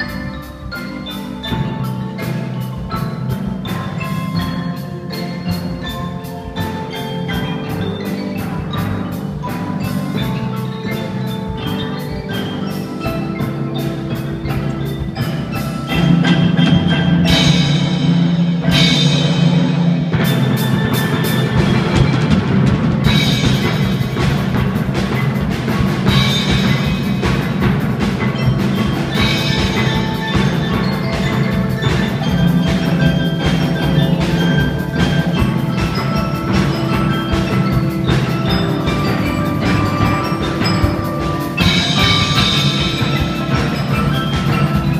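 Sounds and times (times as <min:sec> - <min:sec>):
band playing mallet percussion: 0:00.0 - 0:44.9
drums: 0:00.0 - 0:44.9.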